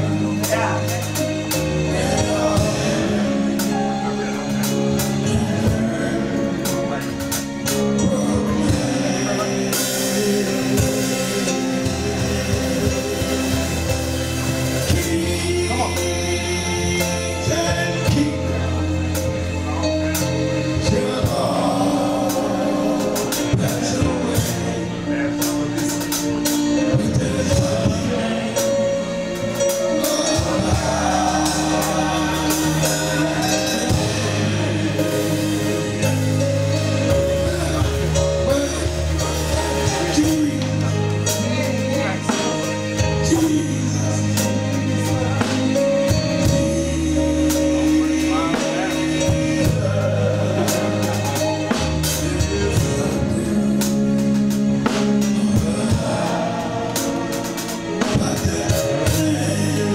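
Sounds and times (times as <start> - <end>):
band with drum kit: 0.0 - 59.9
gospel singing: 0.0 - 59.9.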